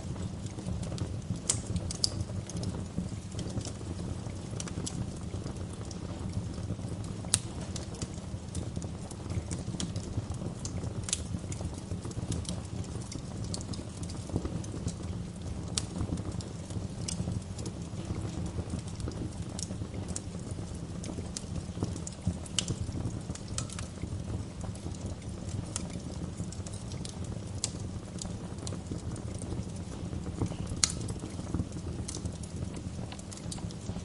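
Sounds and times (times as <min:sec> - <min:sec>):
low rumble of burning fire: 0:00.0 - 0:34.0
wood fire crackling: 0:00.0 - 0:34.0.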